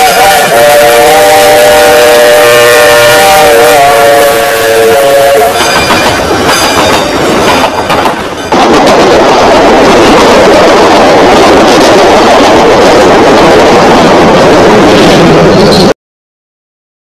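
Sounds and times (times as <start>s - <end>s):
steam train rushing rumble: 0.0s - 16.0s.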